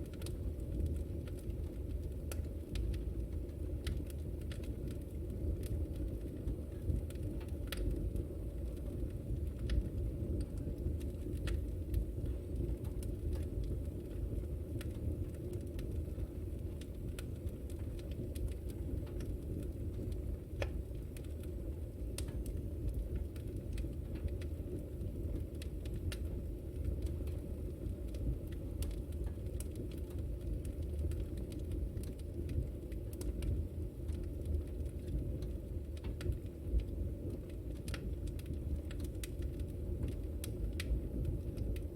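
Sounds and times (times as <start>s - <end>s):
fire roaring and crackling: 0.0s - 41.9s.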